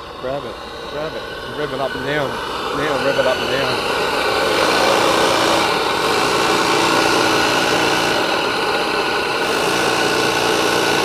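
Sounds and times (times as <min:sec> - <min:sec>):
steam engine rushing hiss: 0:00.0 - 0:11.0.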